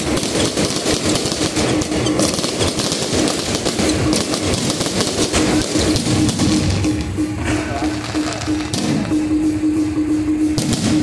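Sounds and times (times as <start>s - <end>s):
fireworks crackling: 0.0s - 9.3s.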